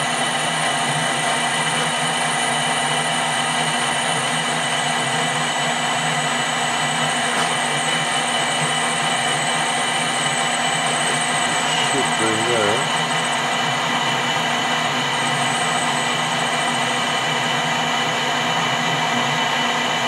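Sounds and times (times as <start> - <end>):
metal lathe motor humming: 0.0 - 20.0.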